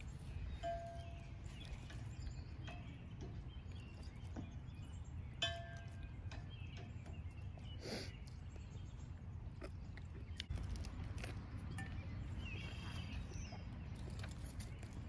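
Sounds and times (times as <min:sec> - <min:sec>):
bird chirp: 0:00.0 - 0:15.0
low wind rumble: 0:00.0 - 0:15.0.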